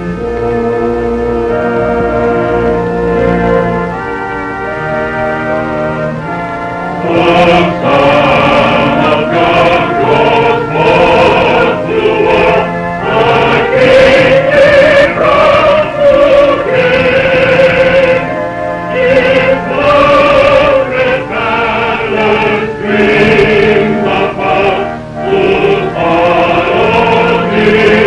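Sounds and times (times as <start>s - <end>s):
congregation singing a hymn: 1.5s - 28.0s.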